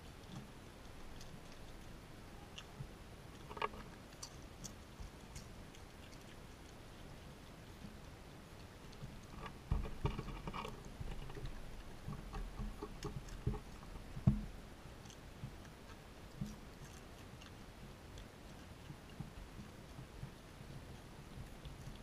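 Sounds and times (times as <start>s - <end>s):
raccoons crunching chips: 0.0s - 22.0s.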